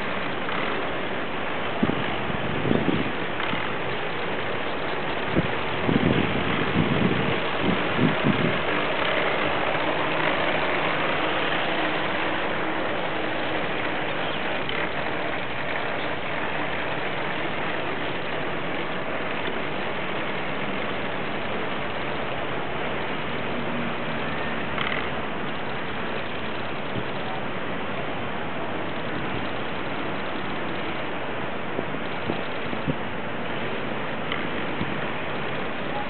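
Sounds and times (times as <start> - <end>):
model speedboat motor and spray: 0.0 - 36.0.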